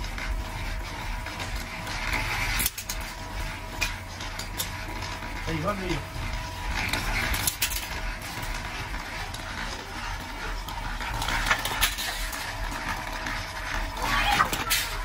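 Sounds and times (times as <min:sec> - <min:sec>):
roller machine motor humming: 0:00.0 - 0:15.0.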